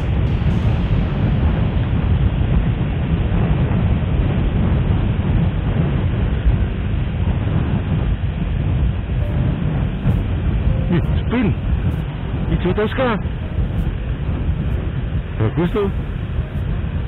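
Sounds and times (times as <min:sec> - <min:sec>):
wind rush on microphone: 0:00.0 - 0:17.0.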